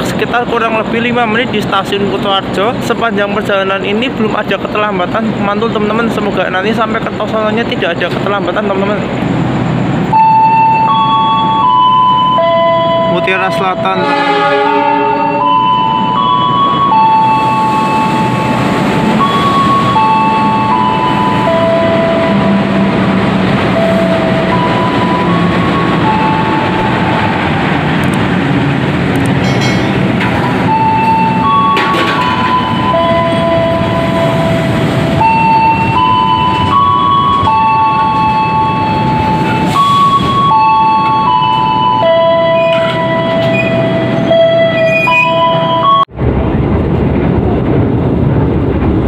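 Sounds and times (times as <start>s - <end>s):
passenger train rumbling past: 0.0s - 49.0s.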